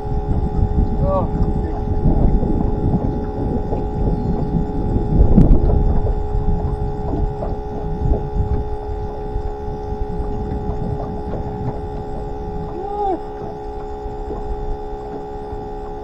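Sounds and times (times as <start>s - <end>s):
aerator pump whining: 0.0s - 16.0s
strong low rumbling: 0.0s - 16.0s.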